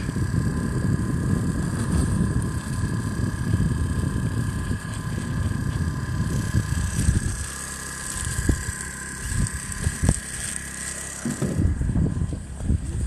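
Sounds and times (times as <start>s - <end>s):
wind buffeting microphone: 0.0s - 7.6s, 8.2s - 10.6s, 11.2s - 13.0s
high-pitched whine: 0.0s - 13.0s.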